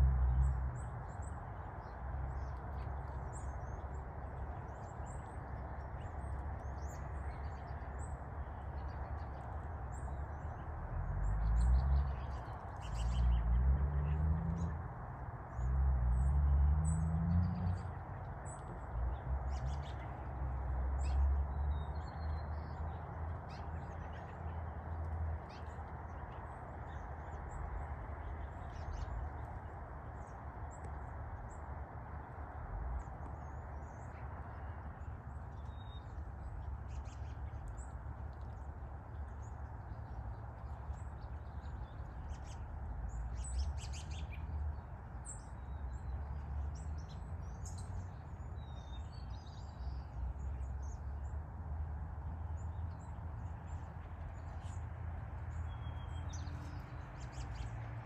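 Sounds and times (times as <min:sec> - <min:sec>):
low outdoor rumble: 0:00.0 - 0:58.0.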